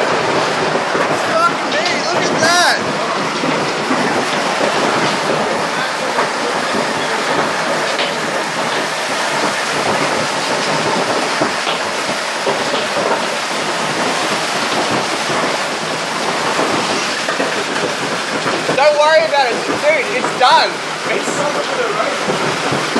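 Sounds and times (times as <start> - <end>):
heavy rain beating on windows: 0.0 - 22.9.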